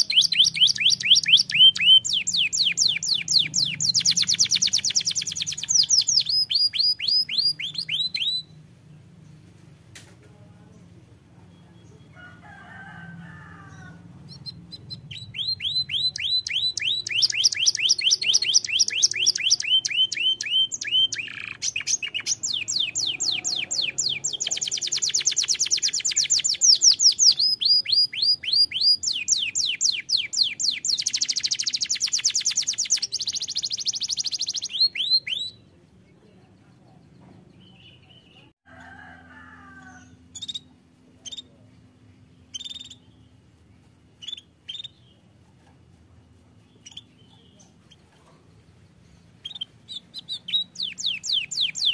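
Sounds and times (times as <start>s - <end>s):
canary singing trills: 0.0s - 9.5s, 13.6s - 38.9s, 39.8s - 51.9s.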